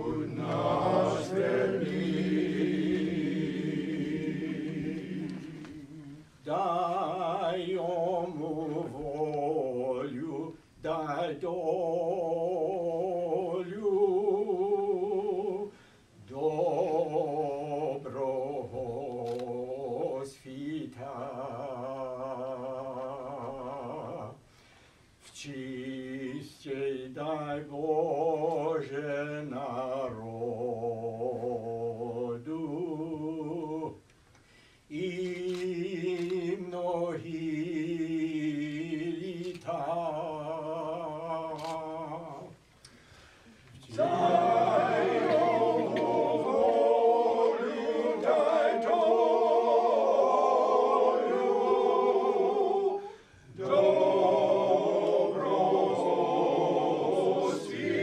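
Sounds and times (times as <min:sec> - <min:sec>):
men singing a cappella: 0:00.0 - 0:24.5, 0:25.2 - 0:34.0, 0:34.9 - 0:42.6, 0:43.8 - 0:58.0.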